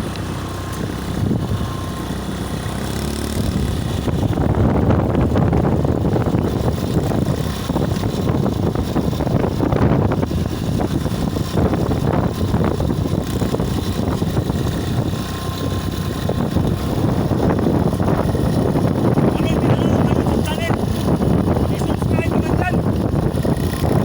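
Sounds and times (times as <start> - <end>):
road and traffic noise: 0.0 - 24.0
wind buffeting microphone: 0.0 - 24.0.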